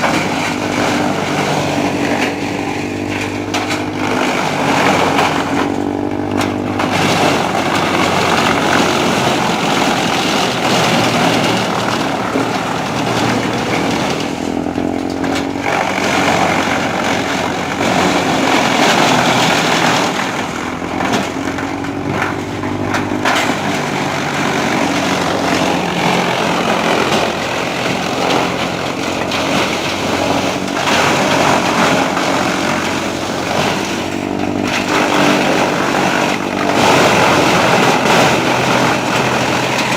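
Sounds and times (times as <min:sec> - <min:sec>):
diesel tractor engine droning: 0:00.0 - 0:39.9
wood chipper crackling and splintering: 0:00.0 - 0:39.9.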